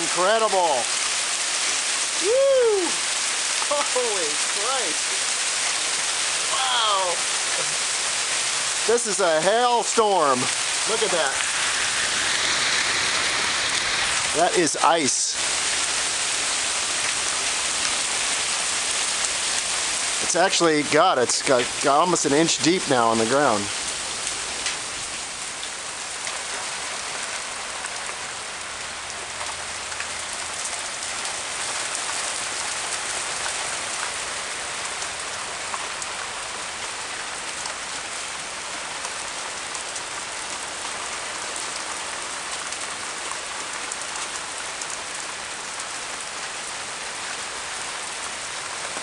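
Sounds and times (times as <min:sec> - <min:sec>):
hail and rain pelting: 0:00.0 - 0:49.0.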